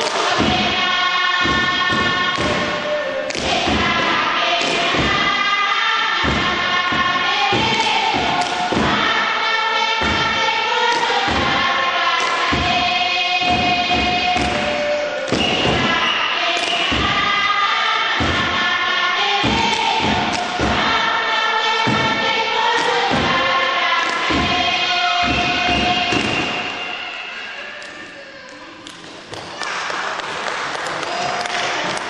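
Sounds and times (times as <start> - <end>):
group chanting in harmony: 0.0 - 28.2.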